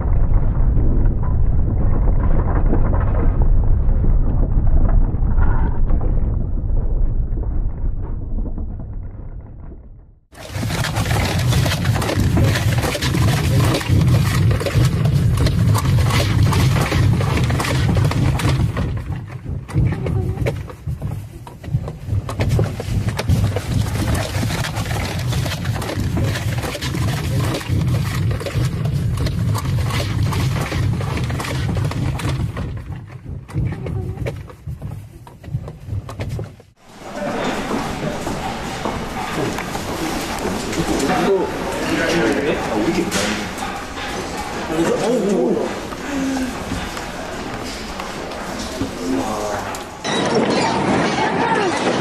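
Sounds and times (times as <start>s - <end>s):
earthquake rumbling and rattling: 0.0s - 52.0s.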